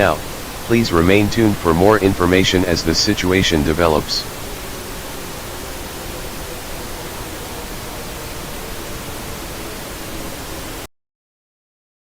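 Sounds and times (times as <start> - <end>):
static hiss: 0.0 - 10.9.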